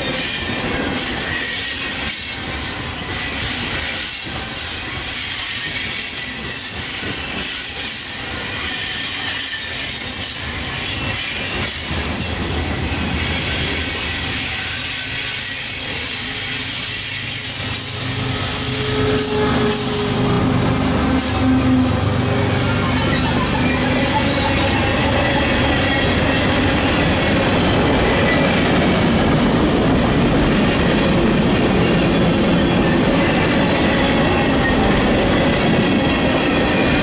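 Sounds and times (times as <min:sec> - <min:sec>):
diesel locomotive engine drone: 0:00.0 - 0:37.0
steel wheels rumbling on rail: 0:00.0 - 0:37.0
train clanks: 0:00.0 - 0:37.0.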